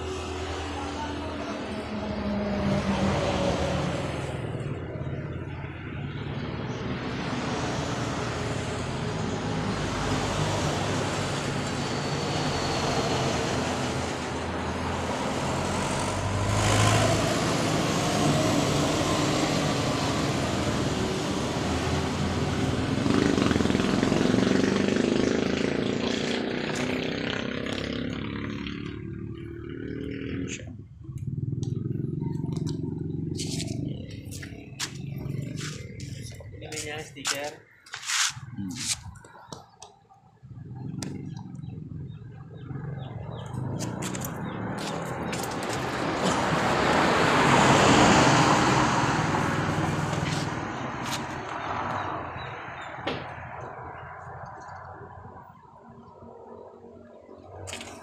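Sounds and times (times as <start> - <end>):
vehicles passing: 0.0 - 58.0.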